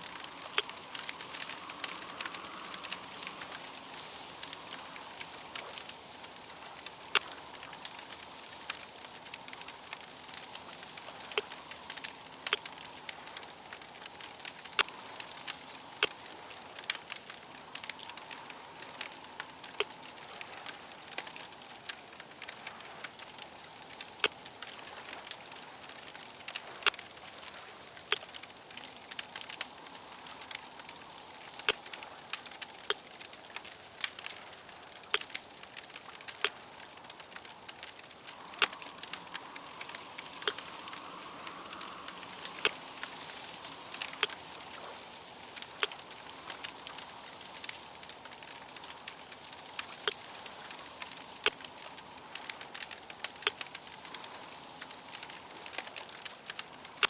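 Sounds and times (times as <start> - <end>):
fire crackling: 0.0 - 57.0.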